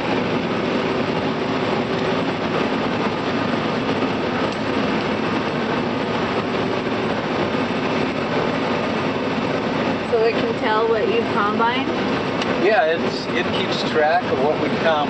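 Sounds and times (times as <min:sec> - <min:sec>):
combine harvester drone: 0:00.0 - 0:15.0.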